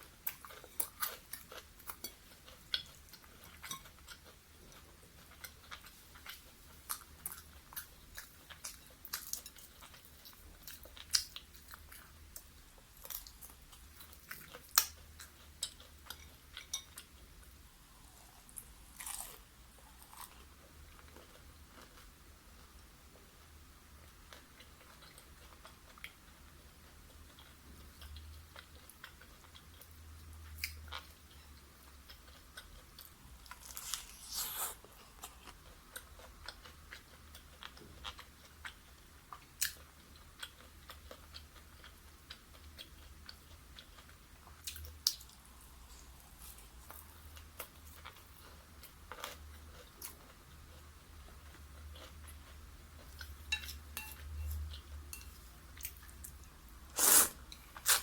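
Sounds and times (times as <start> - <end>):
chewing and crunching fried chicken: 0.0 - 58.0.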